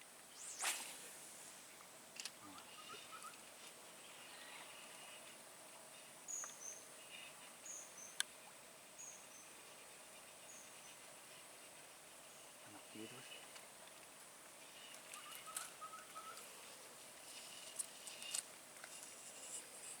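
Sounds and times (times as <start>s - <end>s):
thin insect drone: 0.0s - 20.0s.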